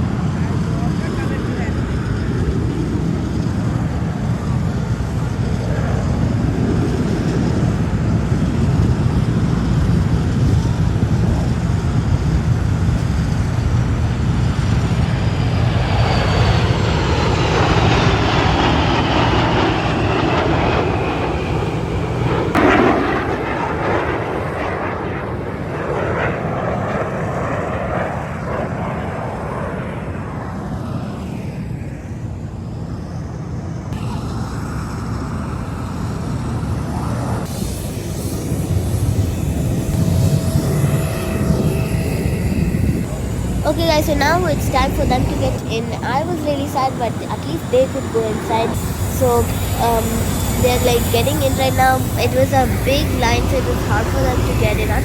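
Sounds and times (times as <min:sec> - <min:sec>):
jet aircraft flying past: 0:00.0 - 0:55.0.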